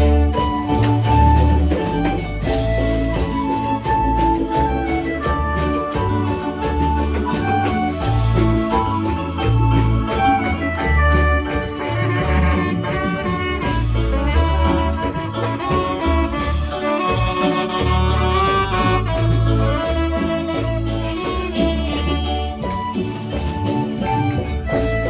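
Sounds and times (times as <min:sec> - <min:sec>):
music with bass line and melody: 0:00.0 - 0:25.0.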